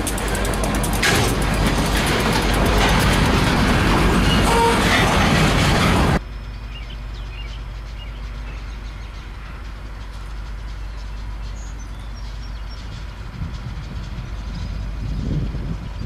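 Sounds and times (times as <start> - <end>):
distant diesel locomotive drone: 0.0 - 16.0.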